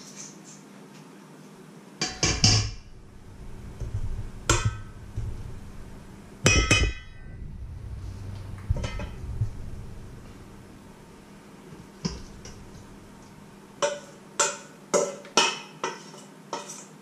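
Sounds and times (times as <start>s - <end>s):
metal bowls clanking: 2.0s - 16.8s.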